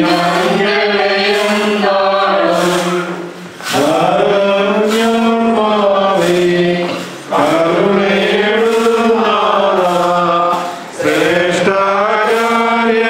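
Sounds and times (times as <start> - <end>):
hymn chanting: 0.0 - 13.0.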